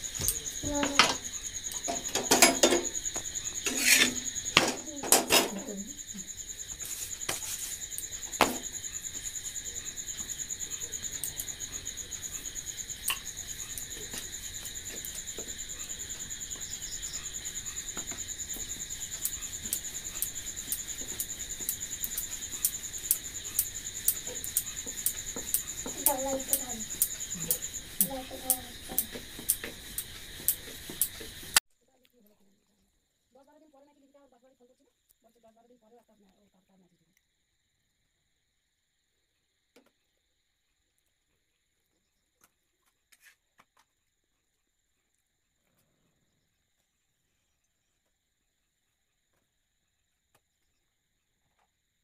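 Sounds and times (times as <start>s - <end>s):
crickets chirping: 0.0s - 52.0s.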